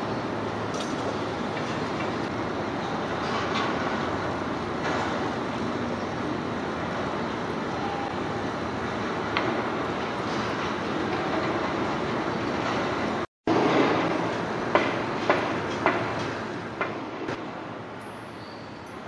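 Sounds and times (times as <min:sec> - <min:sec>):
construction site noise: 0:00.0 - 0:19.0.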